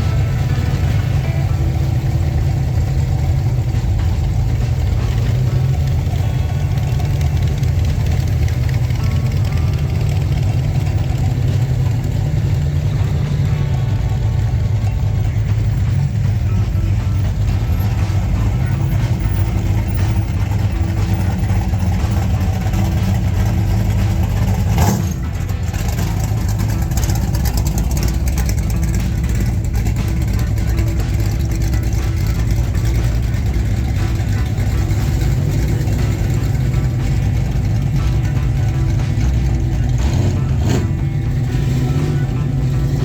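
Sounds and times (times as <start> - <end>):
car engines rumbling: 0.0 - 43.0.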